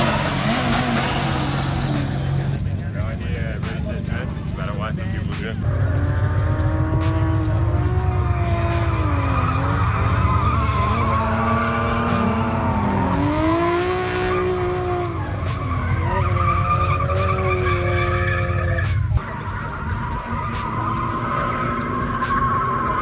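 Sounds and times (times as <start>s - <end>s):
tires squealing: 0.0s - 3.8s, 4.4s - 23.0s
car engines revving: 0.0s - 23.0s.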